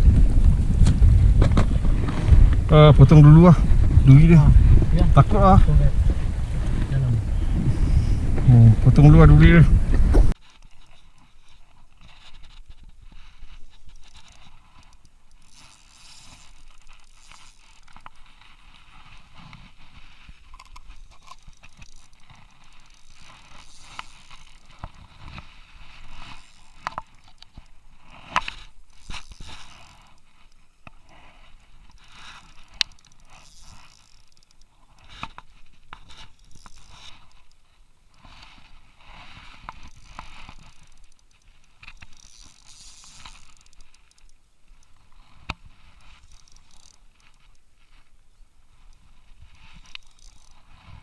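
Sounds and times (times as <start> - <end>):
scraping and rustling in inflatable boat: 0.1 - 8.6, 9.7 - 51.0.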